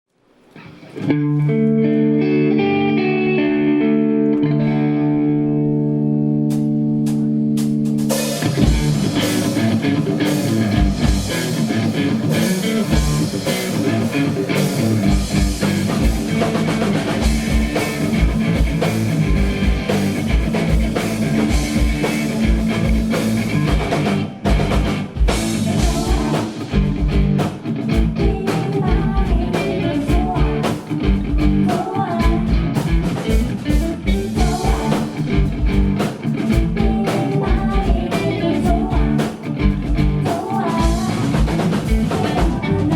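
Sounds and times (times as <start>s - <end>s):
electric guitar chords: 0.5s - 42.9s
heavy rock band playing: 4.4s - 42.9s.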